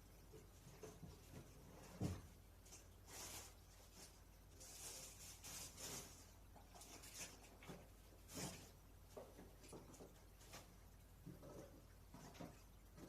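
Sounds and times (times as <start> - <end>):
scrubbing and rustling: 0.2 - 13.0.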